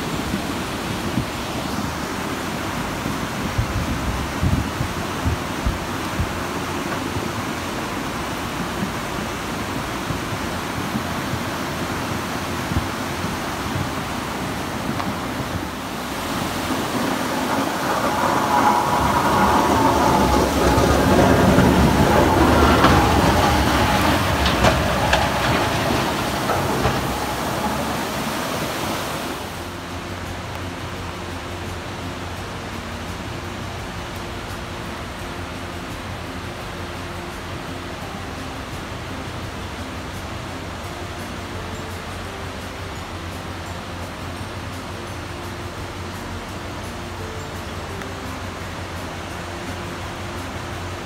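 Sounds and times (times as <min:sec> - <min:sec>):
river water rushing: 0:00.0 - 0:51.0.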